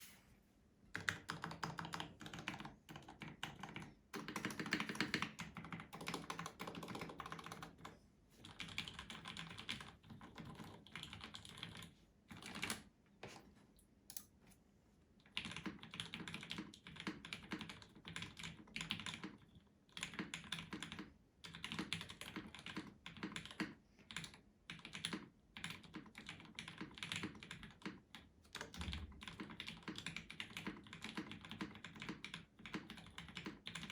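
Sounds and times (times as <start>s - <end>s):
mechanical keyboard typing: 0.9s - 12.9s, 15.2s - 33.9s.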